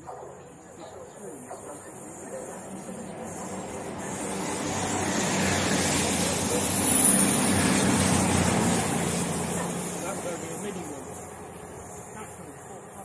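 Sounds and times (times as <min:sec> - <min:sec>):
train rumbling past: 0:01.7 - 0:13.0.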